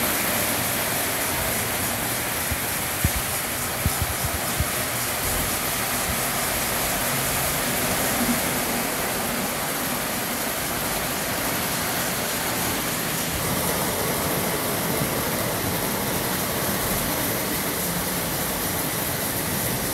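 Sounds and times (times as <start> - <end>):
model trains rumbling on rails: 0.0 - 19.9.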